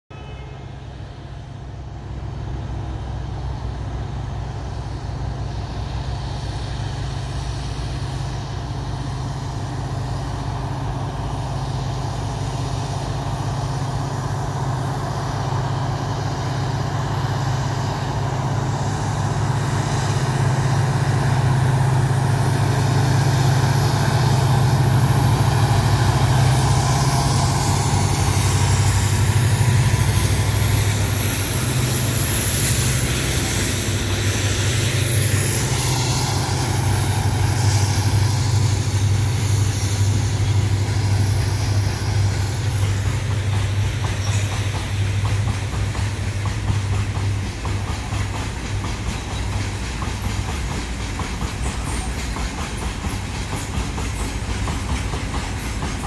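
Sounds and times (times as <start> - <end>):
locomotive engine drone: 0.1 - 56.0
rail and wheel noise: 0.1 - 56.0.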